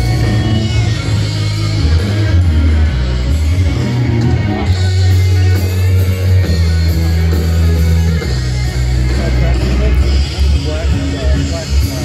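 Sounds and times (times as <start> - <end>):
deep sustained bass notes: 0.0 - 12.0
electric guitar: 0.0 - 12.0.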